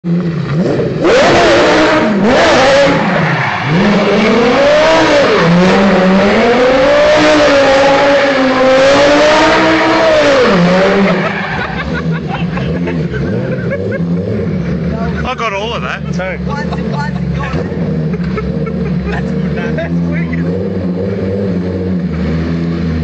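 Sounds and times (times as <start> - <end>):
car engine revving hard: 0.1 - 23.0.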